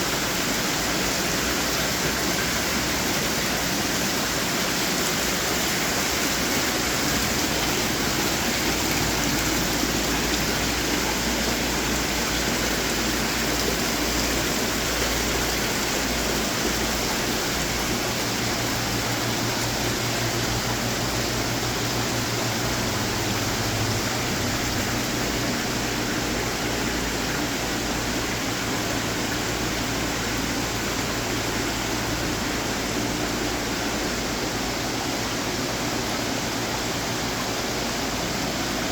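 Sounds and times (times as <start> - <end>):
fountain water splashing: 0.0 - 38.9.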